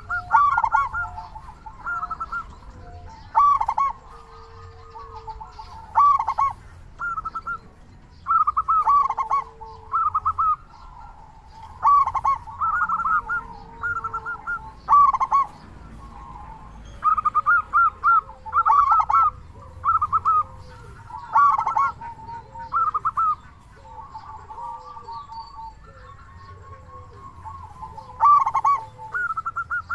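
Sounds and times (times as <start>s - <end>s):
dove cooing: 0.0s - 29.9s
low bird call: 0.0s - 29.9s.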